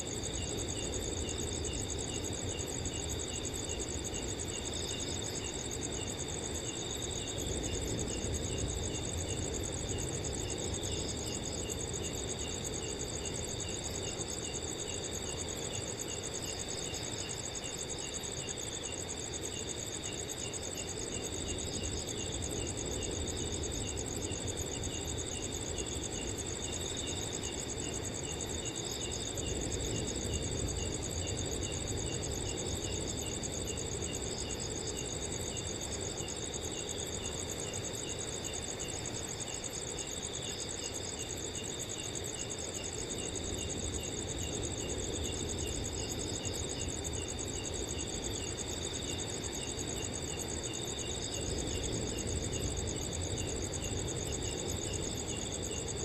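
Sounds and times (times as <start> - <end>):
low rush of wind: 0.0 - 18.4, 19.2 - 56.0
cricket regular chirp: 0.0 - 56.0
crickets fast-pulsing trill: 0.0 - 56.0.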